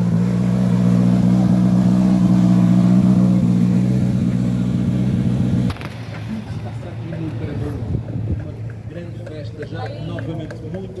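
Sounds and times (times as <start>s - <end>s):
car engine running loudly: 0.0s - 9.0s.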